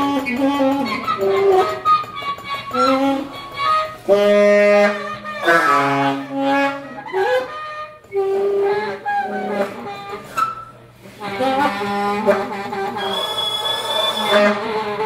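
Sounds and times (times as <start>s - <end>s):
saxophone long notes: 0.0s - 15.0s.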